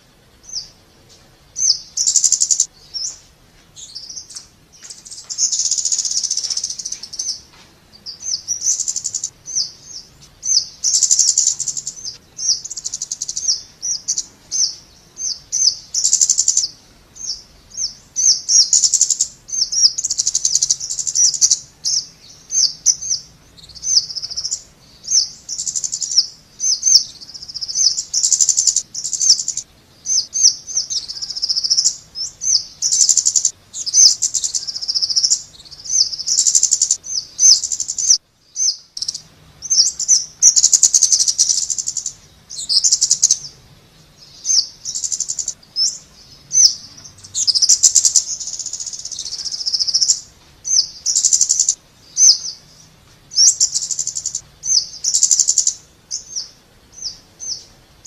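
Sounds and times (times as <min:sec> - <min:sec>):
bird high thin chirping: 0:00.4 - 0:43.6, 0:44.2 - 0:57.7.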